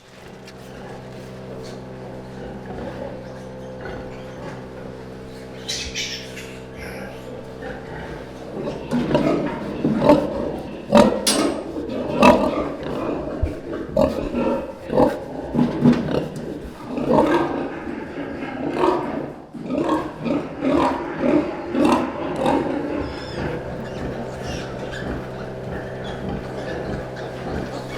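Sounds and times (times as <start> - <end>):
pigs grunting: 0.0 - 27.9
pig high cries: 0.2 - 27.9.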